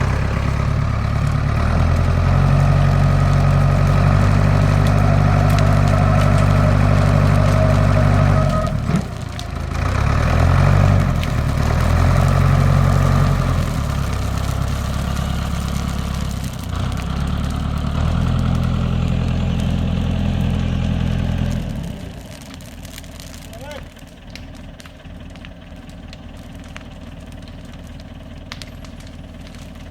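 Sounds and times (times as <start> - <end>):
engine popping: 0.0 - 29.9
telehandler engine revving: 0.0 - 29.9.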